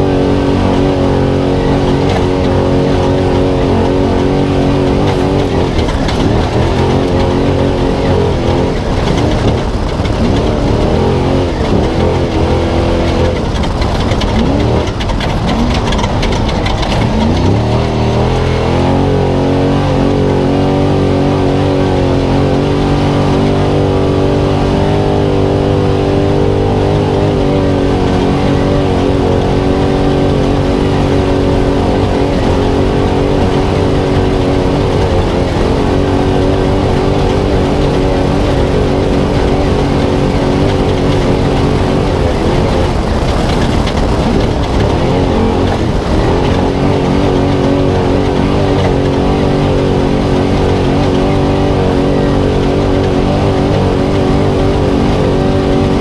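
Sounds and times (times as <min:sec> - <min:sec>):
truck engine at race pace: 0:00.0 - 0:56.0.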